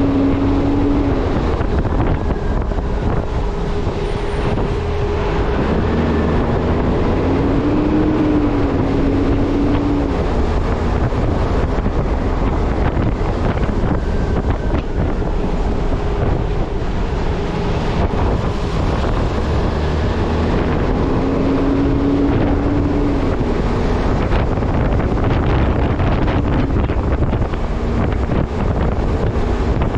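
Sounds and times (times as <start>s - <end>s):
truck engine droning: 0.0s - 29.9s
wind noise on microphone: 0.0s - 29.9s.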